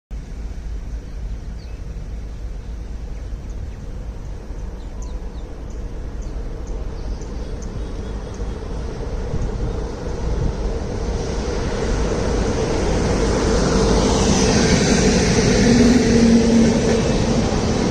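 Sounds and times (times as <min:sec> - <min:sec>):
electric train rumbling: 0:00.1 - 0:17.9.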